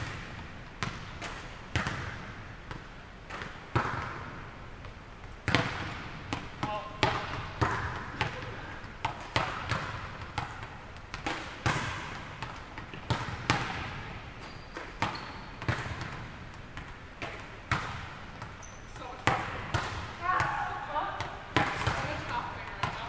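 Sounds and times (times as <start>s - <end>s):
volleyballs bouncing on gym floor: 0.0s - 23.0s.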